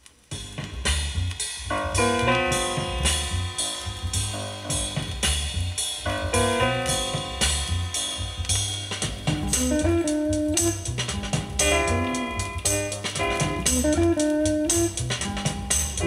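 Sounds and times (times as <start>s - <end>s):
music with drums from a record: 0.0s - 16.0s.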